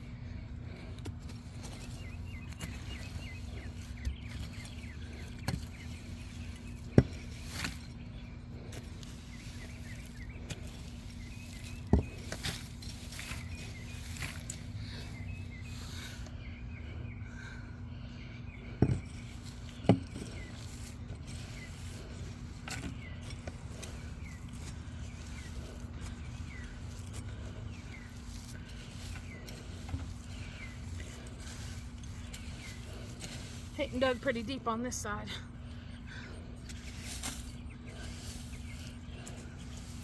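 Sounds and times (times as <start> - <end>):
bird chirps: 1.6 - 40.0.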